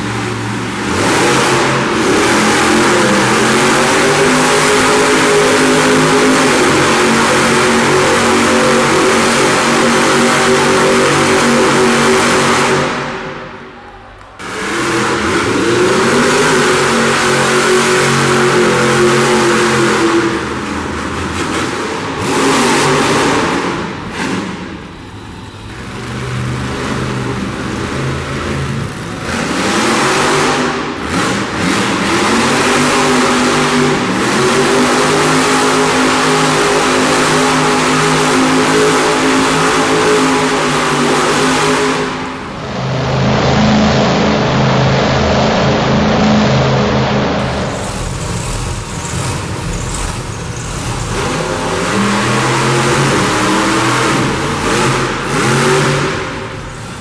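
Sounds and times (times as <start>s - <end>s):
monster truck engines revving: 0.0s - 57.0s.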